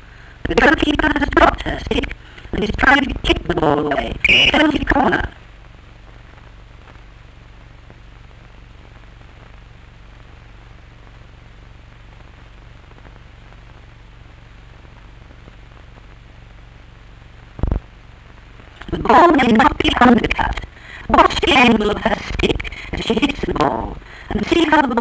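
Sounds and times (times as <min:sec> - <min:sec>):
faint crackle: 0:00.0 - 0:25.0
film soundtrack hiss: 0:00.0 - 0:25.0
low hum: 0:00.0 - 0:25.0.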